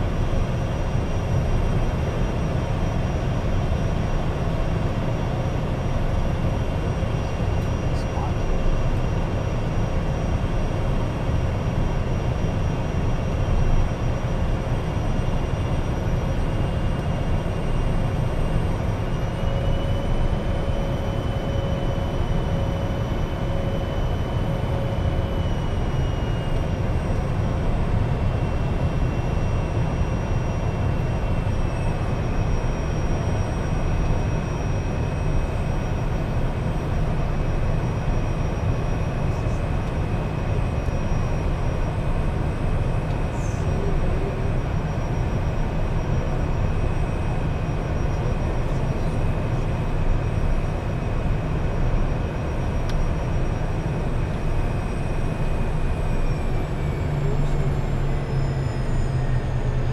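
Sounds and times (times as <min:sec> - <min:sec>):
jet cockpit rumble: 0:00.0 - 0:59.9
jet engine whine: 0:00.0 - 0:59.9.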